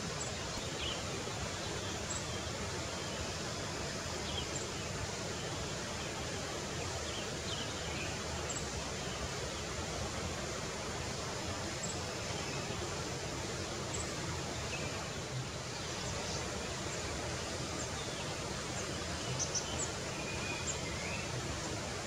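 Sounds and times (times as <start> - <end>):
outdoor hiss: 0.0 - 22.0.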